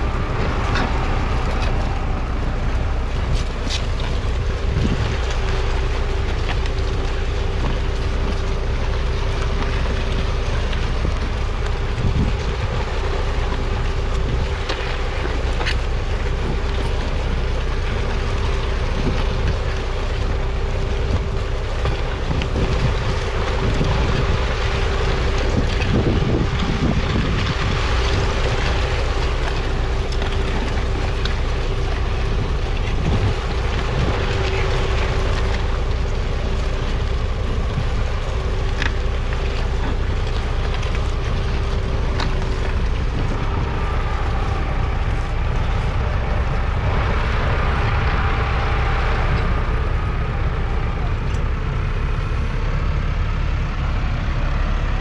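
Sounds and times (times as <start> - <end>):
wind buffeting microphone: 0.0 - 53.0
steady whine: 0.0 - 55.0
tractor diesel engine under load: 0.0 - 55.0.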